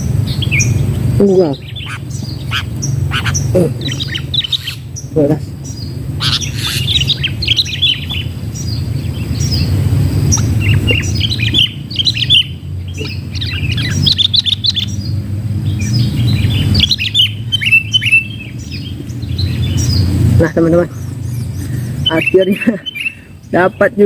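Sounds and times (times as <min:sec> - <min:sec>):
birds chattering chirps: 0:00.0 - 0:24.0
steady low rumble: 0:00.0 - 0:24.0.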